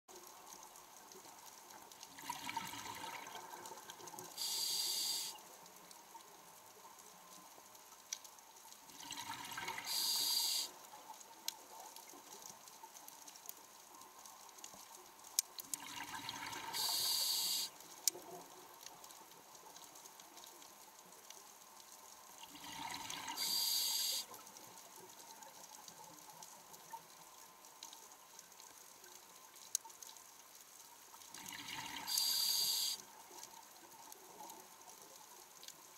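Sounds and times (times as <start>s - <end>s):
faint clicks: 3.5s - 8.9s, 9.9s - 15.8s, 16.8s - 35.9s.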